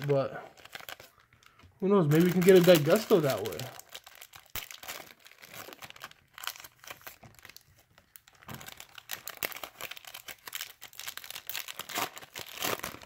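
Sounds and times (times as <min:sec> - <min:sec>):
foil wrappers crinkling and tearing: 0:00.0 - 0:13.0.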